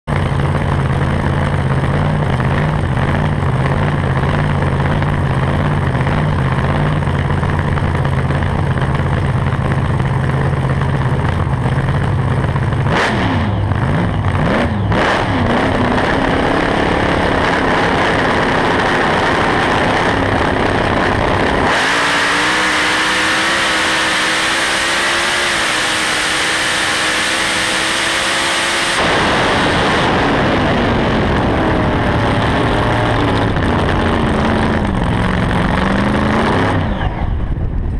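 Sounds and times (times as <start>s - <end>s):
drag car engine: 0.0s - 37.9s.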